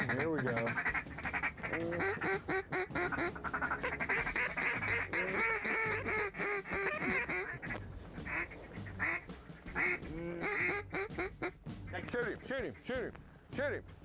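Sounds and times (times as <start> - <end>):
duck quacking: 0.0 - 13.0.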